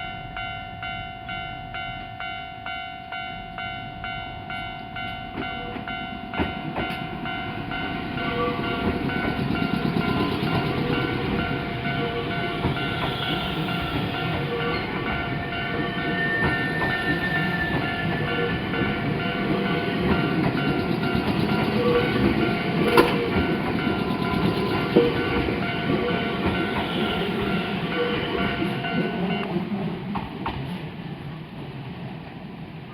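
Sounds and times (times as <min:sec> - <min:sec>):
crossing warning signal ringing: 0:00.3 - 0:29.6
train wheels rumbling on rails: 0:04.5 - 0:32.4.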